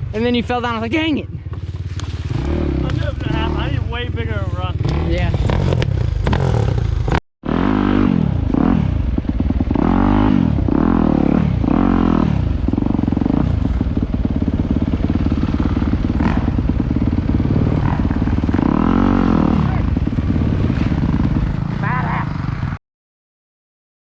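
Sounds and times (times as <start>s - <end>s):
dirt bike engine revving: 0.0s - 22.8s.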